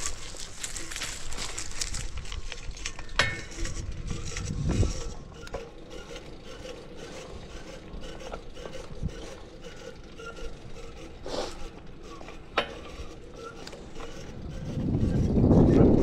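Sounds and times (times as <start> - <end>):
bicycle chain mechanical noise: 0.0 - 16.0.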